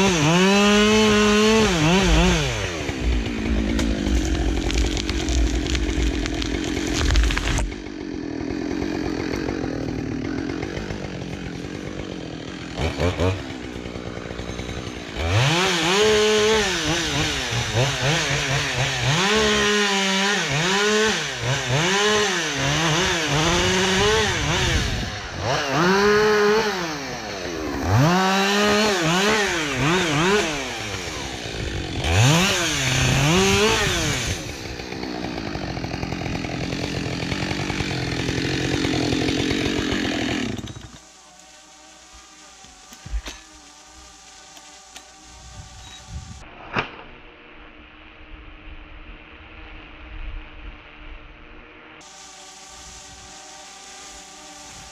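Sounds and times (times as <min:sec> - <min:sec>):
chainsaw idling and revving: 0:00.0 - 0:46.4, 0:52.0 - 0:54.9.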